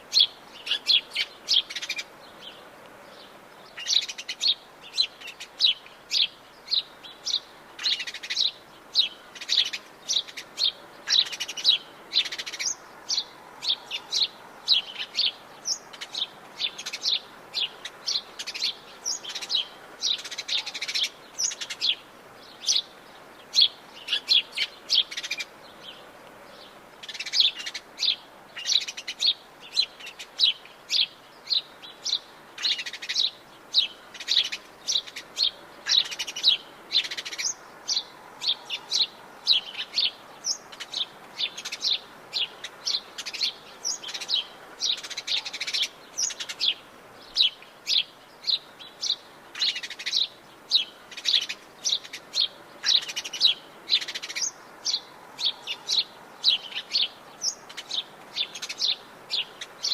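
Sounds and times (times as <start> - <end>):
birds chirping: 0.0 - 59.9
faint steady background hiss: 0.0 - 59.9.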